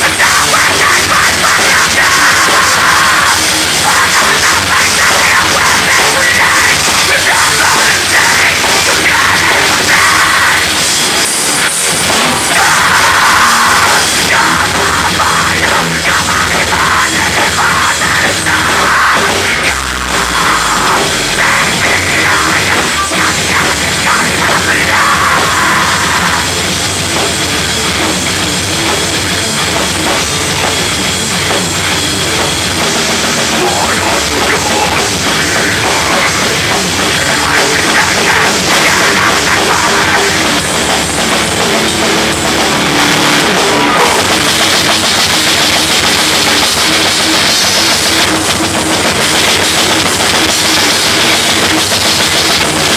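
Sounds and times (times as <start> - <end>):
bass guitar: 0.0 - 52.9
drum kit: 0.0 - 52.9
electric guitars: 0.0 - 52.9.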